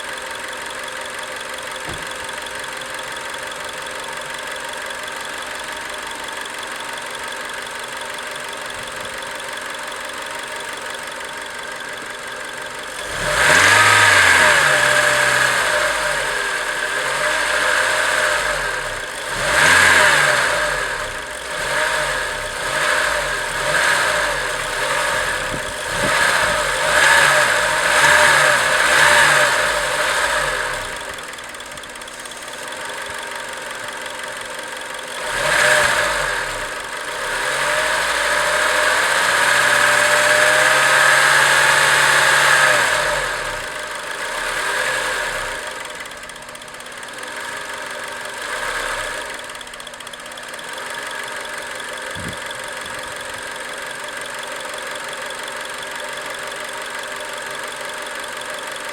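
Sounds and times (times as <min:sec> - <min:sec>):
car engine revving: 0:10.9 - 0:58.9.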